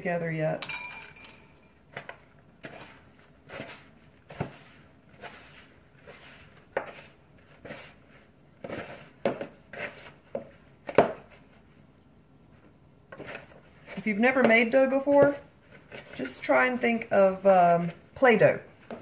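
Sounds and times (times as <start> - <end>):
hands kneading dough in bowl: 1.3 - 19.0.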